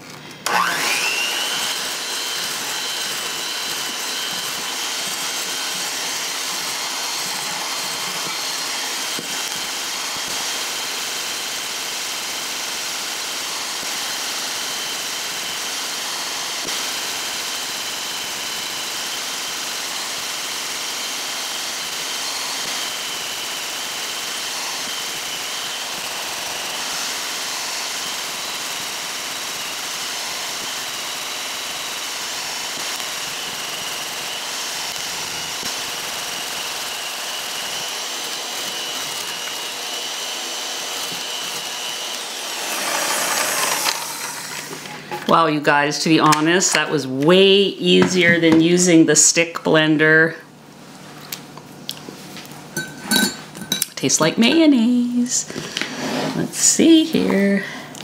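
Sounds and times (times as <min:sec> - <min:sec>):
electric hand mixer motor whining: 0:00.0 - 0:51.6, 0:52.4 - 0:58.0.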